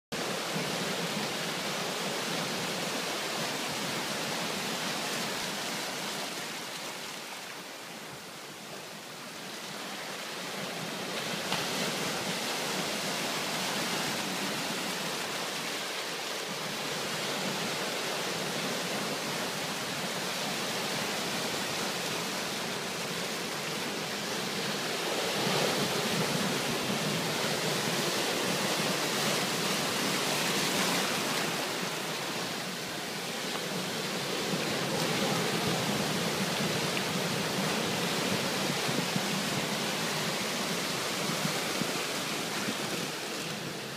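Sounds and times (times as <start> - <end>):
surf washing over rocks: 0.2 - 43.9.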